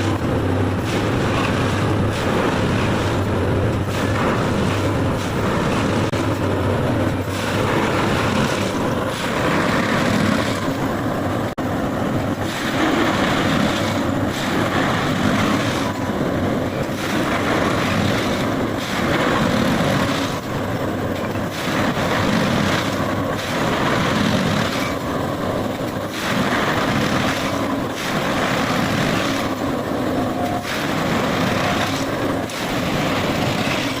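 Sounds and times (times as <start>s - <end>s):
heavy track machine running: 0.0s - 34.0s.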